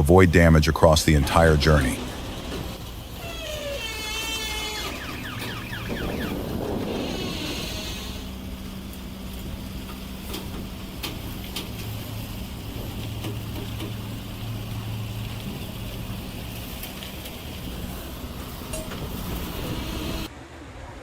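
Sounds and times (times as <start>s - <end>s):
heavy truck engine droning: 0.0s - 20.3s.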